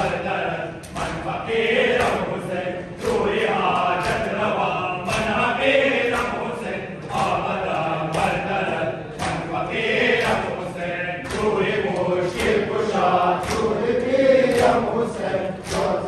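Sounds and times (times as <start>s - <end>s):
men chanting a lament: 0.0s - 16.0s.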